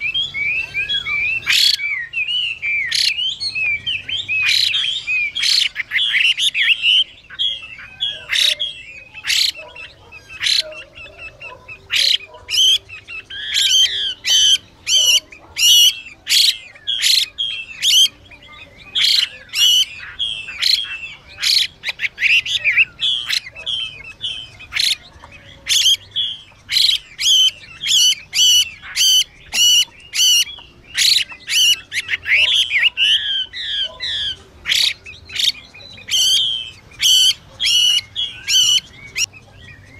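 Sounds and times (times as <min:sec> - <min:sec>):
bird harsh calls and song: 0:00.0 - 0:39.9.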